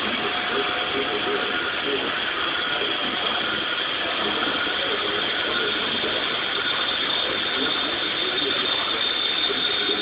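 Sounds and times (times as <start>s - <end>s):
lathe machine noise: 0.0s - 10.0s
thin high whine: 0.0s - 10.0s.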